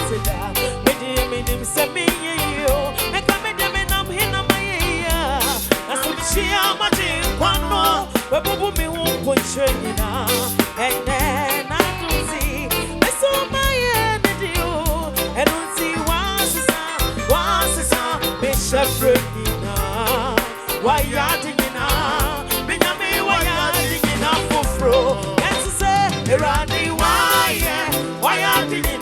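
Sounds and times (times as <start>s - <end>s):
gospel band music: 0.0s - 29.0s
person singing lead: 0.0s - 29.0s.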